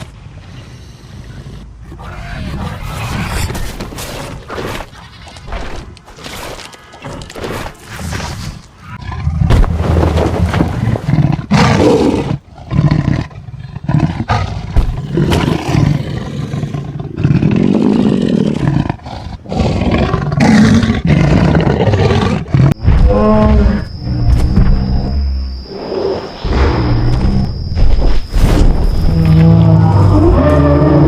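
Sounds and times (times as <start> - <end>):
animal roars and growls: 0.5 - 5.9, 7.0 - 31.0.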